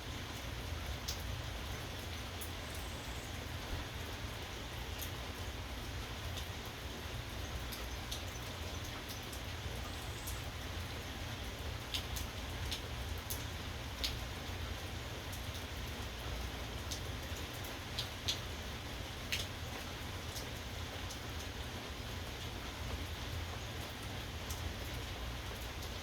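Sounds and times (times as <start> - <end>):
steady rainfall: 0.0 - 26.0.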